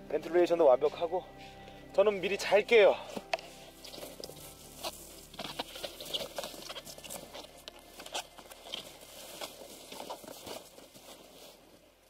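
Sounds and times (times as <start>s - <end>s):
foam pad rustling and crackling: 2.0s - 12.0s.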